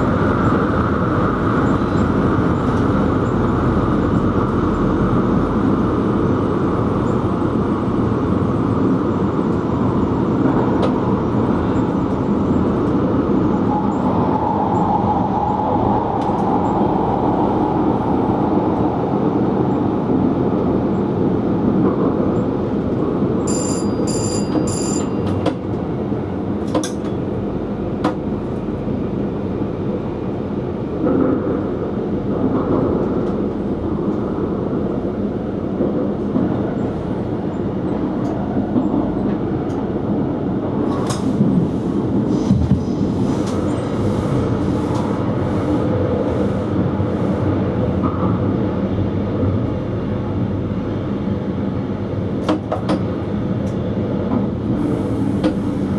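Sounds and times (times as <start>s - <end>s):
train wheels and motors rumbling: 0.0s - 55.9s.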